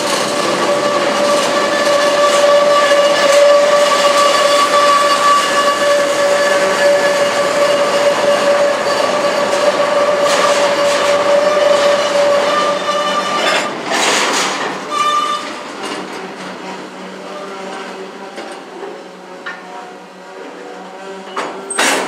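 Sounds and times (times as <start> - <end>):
freight train cars rolling: 0.0 - 22.0.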